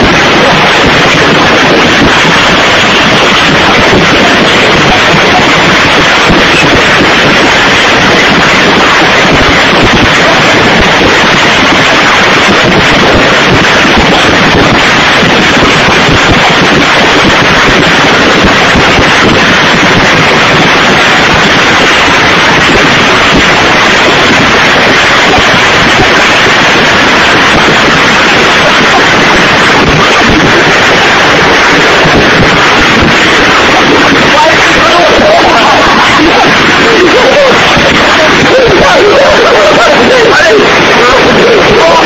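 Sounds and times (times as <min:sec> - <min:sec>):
hail and heavy rain on pavement: 0:00.0 - 0:42.0.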